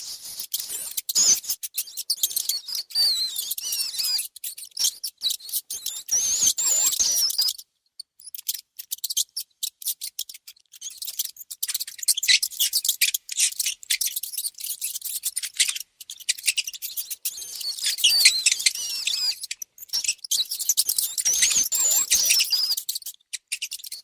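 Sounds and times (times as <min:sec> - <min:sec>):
high-pitched scratching and clicking: 0:00.0 - 0:24.0
mouse squeaking: 0:00.0 - 0:24.0.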